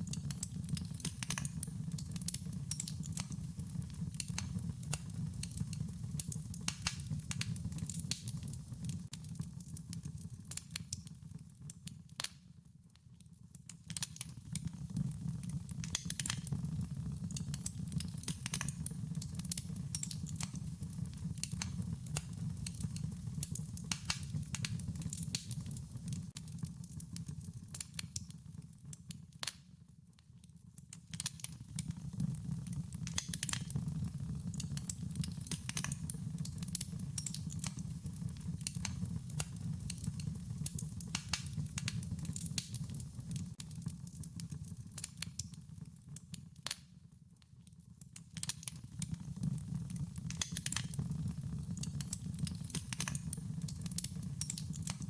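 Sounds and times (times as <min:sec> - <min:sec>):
wood fire crackling and popping: 0:00.0 - 0:47.0, 0:47.7 - 0:55.0.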